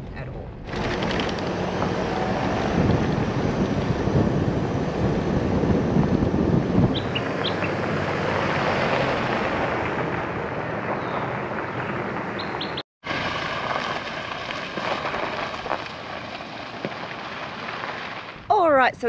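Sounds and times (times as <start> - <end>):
tyres rumbling on gravel: 0.0 - 19.0
wind noise: 0.0 - 19.0.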